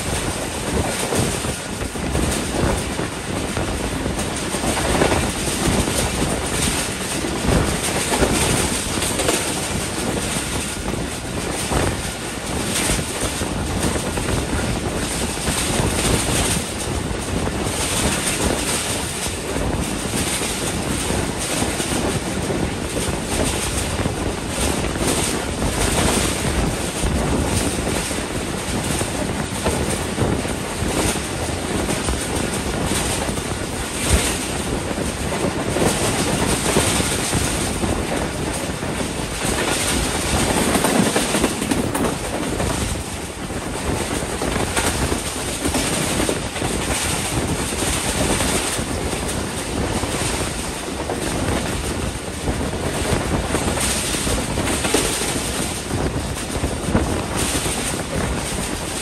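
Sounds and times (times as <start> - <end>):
train wheels rumbling on rails: 0.0 - 59.0
wind rushing: 0.0 - 59.0.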